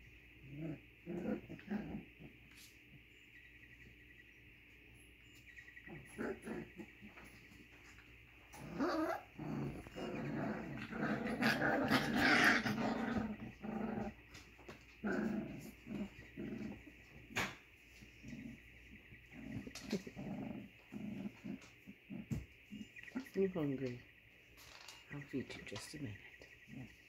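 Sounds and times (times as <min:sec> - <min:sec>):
puppies play-growling and yipping: 0:00.0 - 0:04.0, 0:04.7 - 0:23.4, 0:26.6 - 0:27.0.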